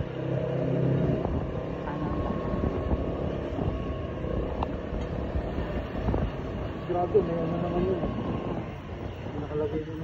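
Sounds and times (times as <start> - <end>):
low road rumble: 0.0 - 10.0
small vehicle engine running: 0.0 - 10.0.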